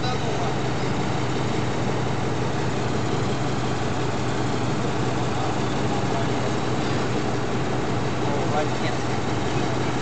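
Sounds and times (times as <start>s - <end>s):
excavator diesel engine idling: 0.0s - 10.0s.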